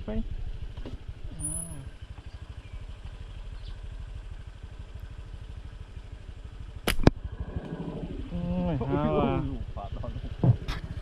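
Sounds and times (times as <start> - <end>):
small engine puttering: 0.6 - 11.0.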